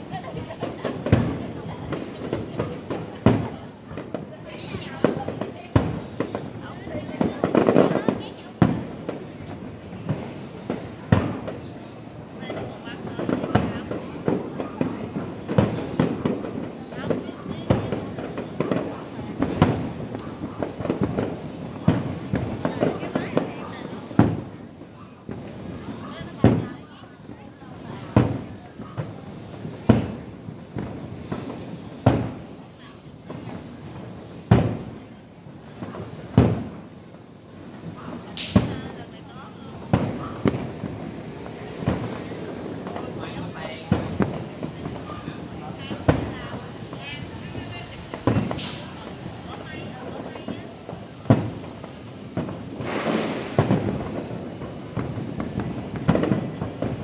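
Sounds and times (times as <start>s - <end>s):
fireworks booming: 0.0s - 57.0s
fireworks crackling: 0.0s - 57.0s.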